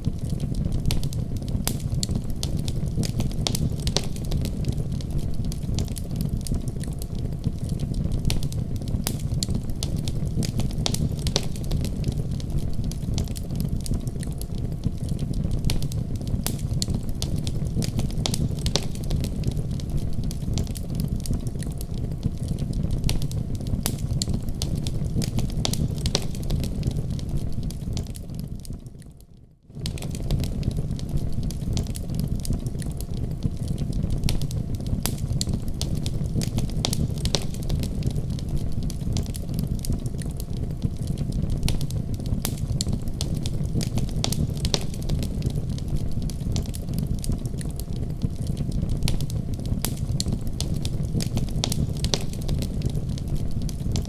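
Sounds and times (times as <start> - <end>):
low rumble of flames: 0.0 - 54.0
wood fire popping: 0.0 - 54.0.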